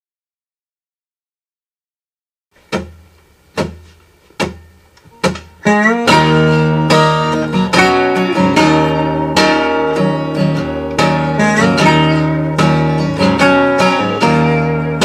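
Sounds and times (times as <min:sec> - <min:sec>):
acoustic guitars playing: 0:02.6 - 0:15.0.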